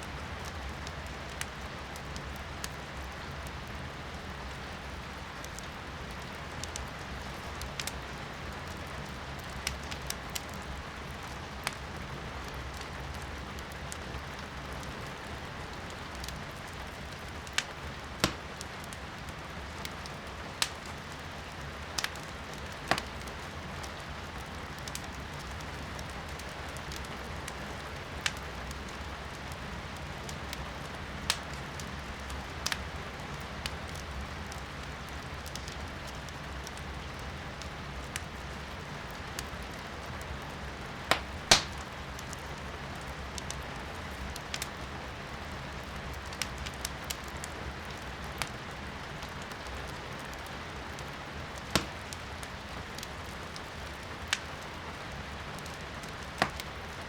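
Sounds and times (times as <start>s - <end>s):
firewood crackling and popping: 0.1s - 57.0s.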